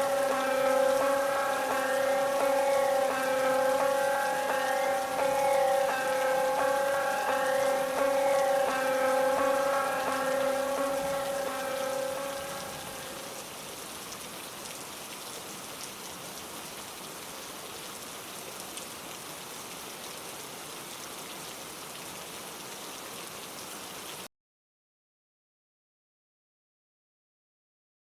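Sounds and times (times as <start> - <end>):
steady rain falling: 0.0 - 24.3.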